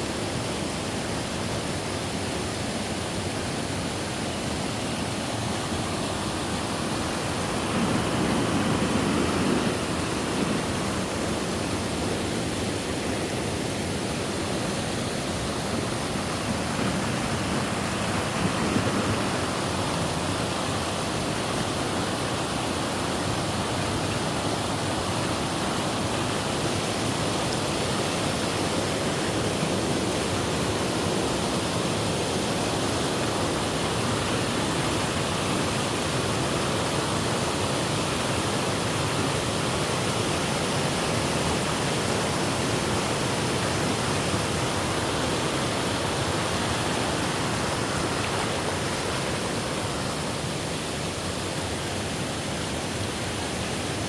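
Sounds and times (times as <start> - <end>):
waterfall rushing water: 0.0 - 54.0.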